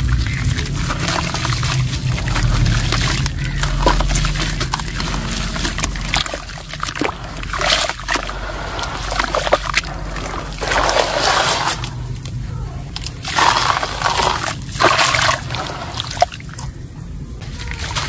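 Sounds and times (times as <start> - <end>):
small crackles and spatters: 0.0 - 16.8, 17.4 - 18.0
water splashing and sloshing: 0.0 - 18.0.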